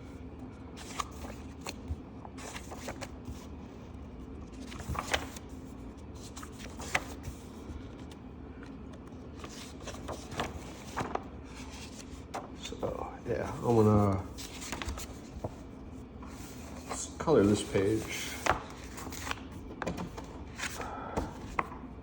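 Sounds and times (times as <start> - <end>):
paper pages rustling: 0.7 - 21.9.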